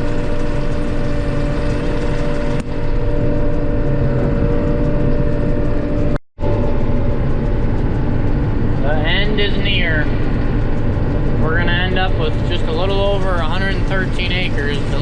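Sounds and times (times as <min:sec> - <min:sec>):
combine engine and threshing drone: 0:00.0 - 0:15.0.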